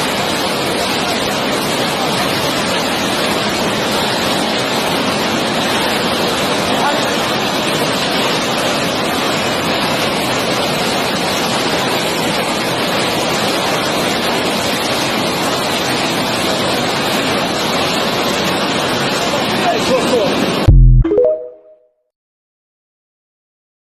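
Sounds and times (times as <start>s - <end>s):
water rushing through spillway: 0.0s - 20.7s.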